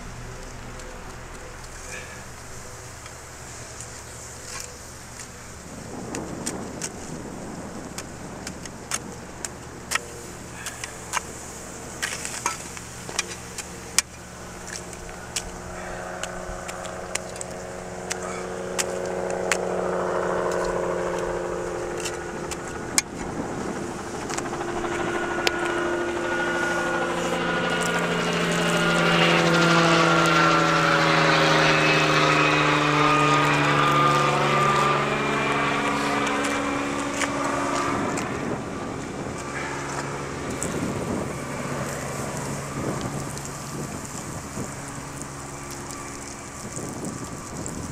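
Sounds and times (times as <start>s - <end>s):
aircraft engine droning overhead: 0.0s - 47.9s.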